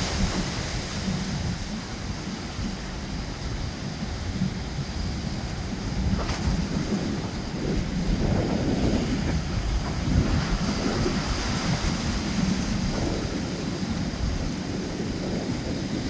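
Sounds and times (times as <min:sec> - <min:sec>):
ocean waves: 0:00.0 - 0:16.0
wind buffeting microphone: 0:00.0 - 0:16.0.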